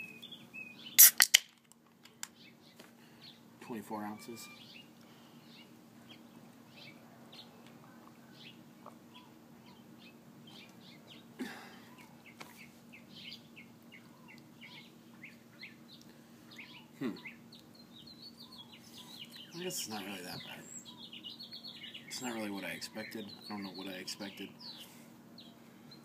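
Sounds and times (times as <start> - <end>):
small birds chirping: 0.0 - 1.2, 2.0 - 26.0.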